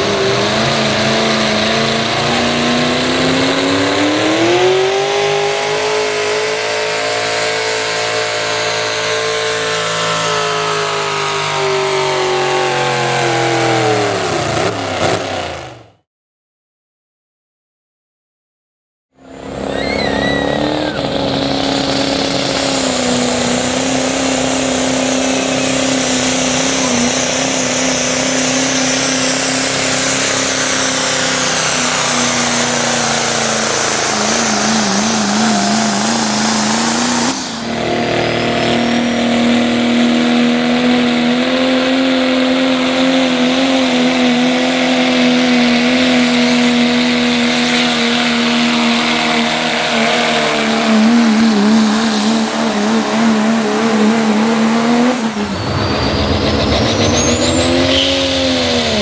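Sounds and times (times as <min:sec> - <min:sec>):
diesel truck engine at high revs: 0:00.0 - 0:16.0, 0:19.1 - 0:59.0.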